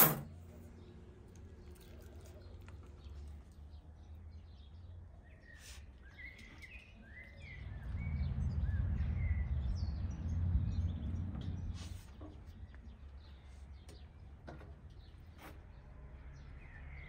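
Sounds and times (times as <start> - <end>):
small birds chirping: 0.5 - 17.0.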